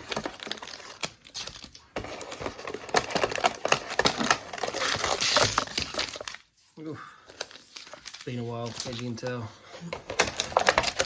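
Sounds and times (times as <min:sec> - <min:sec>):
wrapper crinkling: 0:00.0 - 0:06.5, 0:07.3 - 0:09.4, 0:10.1 - 0:11.0.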